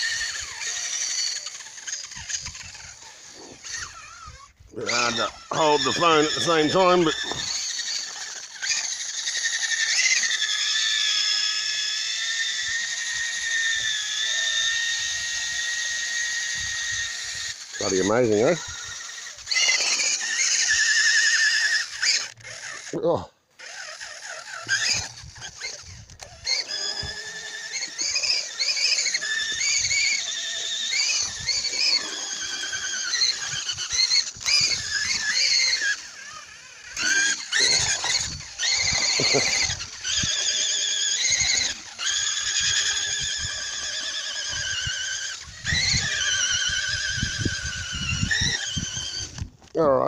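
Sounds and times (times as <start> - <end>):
electric drill motor whine: 0.0 - 23.0, 23.6 - 49.7.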